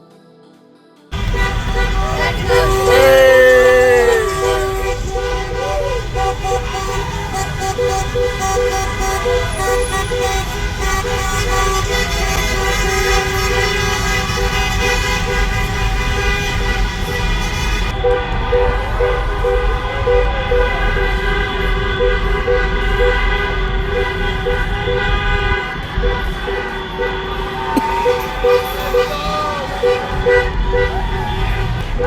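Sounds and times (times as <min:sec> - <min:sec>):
car horns honking: 0:01.2 - 0:32.0
low rumble of cars: 0:01.2 - 0:32.0.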